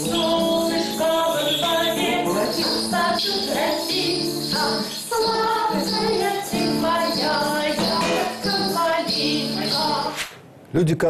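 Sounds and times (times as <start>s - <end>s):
jingling hand percussion: 0.0s - 10.2s
woman singing: 0.0s - 10.2s
acoustic guitar strumming: 0.0s - 10.3s.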